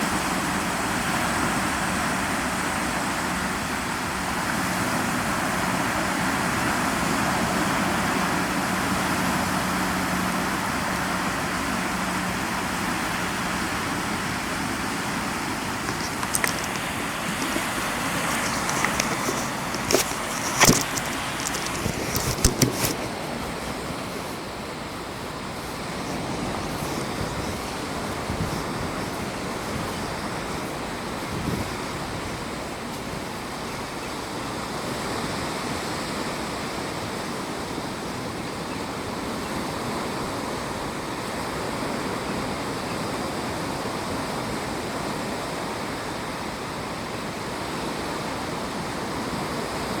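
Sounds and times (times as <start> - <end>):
sea waves washing onto shore: 0.0 - 50.0.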